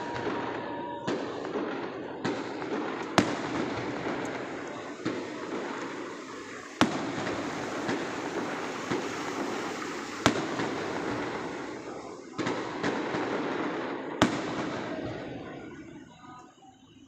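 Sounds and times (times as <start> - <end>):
loud firework bangs: 0.0 - 16.4
small firework pops: 0.0 - 16.6
distant fireworks crackle: 0.0 - 17.0.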